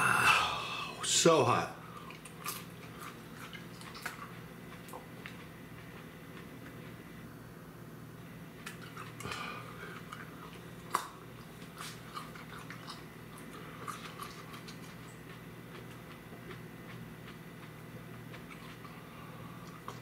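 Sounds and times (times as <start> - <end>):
steady low hum: 0.0 - 20.0
person chewing chili peppers: 1.8 - 7.2, 8.5 - 20.0
wet crunches and mouth clicks: 1.9 - 7.0, 8.6 - 20.0.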